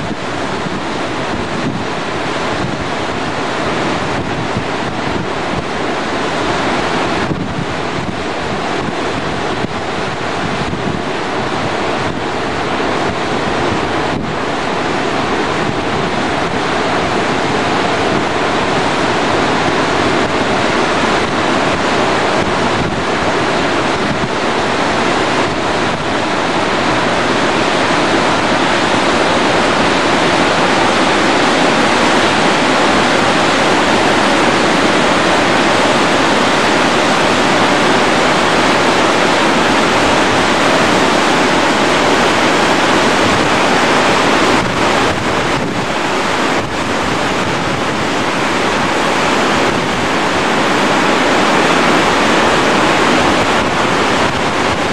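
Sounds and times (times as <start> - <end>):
fast-flowing river rushing: 0.0 - 54.9.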